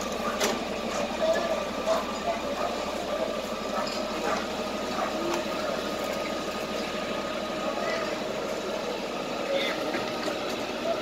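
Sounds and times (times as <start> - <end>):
fire engine idling: 0.0 - 11.0.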